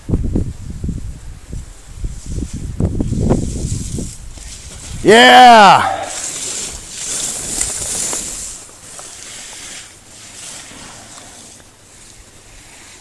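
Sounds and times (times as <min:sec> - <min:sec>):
skis carving on snow: 0:01.7 - 0:13.0.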